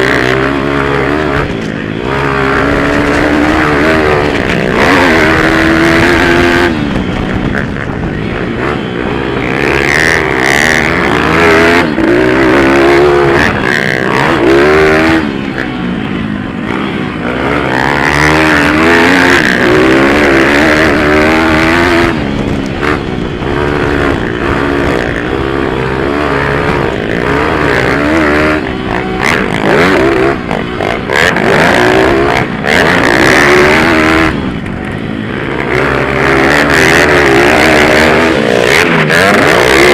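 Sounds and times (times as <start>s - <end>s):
pit bike engines racing: 0.0s - 39.9s.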